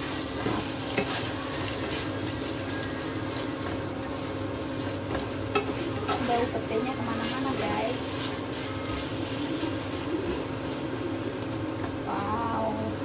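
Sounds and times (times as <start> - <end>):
spatula stirring and scraping: 0.0 - 10.8
food sizzling in a wok: 0.0 - 13.0.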